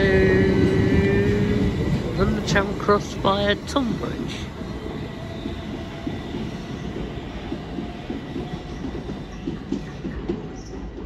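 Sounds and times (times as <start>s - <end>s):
train rumbling: 0.0s - 11.0s
wheels clicking over rail joints: 0.0s - 11.0s.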